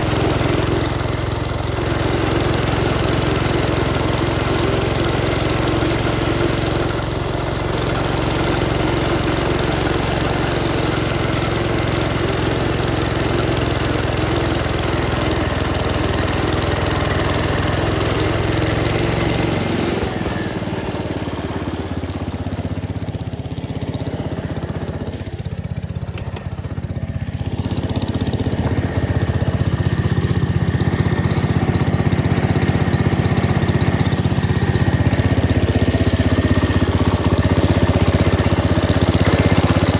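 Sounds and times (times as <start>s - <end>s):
walk-behind tractor engine running: 0.0s - 39.9s.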